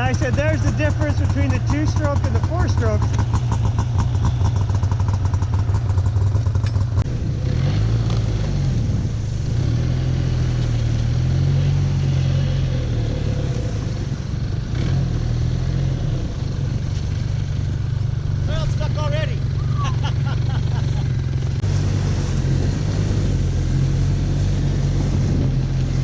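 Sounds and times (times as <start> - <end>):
snowmobile engine: 0.0 - 26.0.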